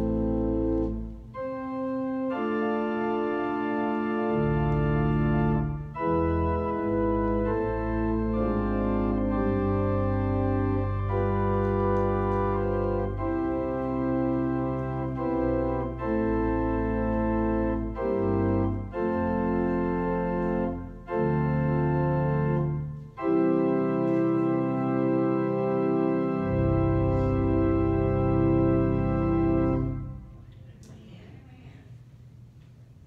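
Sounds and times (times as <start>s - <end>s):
organ playing a slow hymn: 0.0s - 30.5s.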